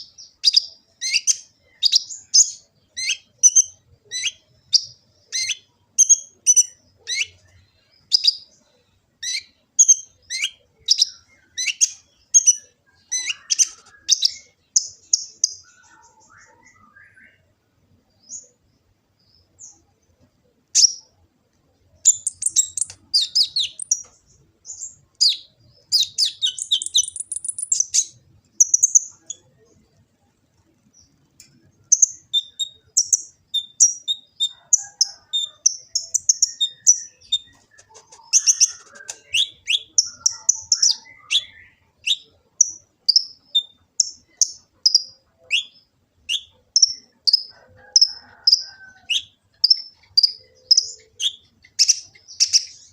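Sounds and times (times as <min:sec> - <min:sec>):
sunbird chirping and twittering: 0:00.0 - 0:52.9.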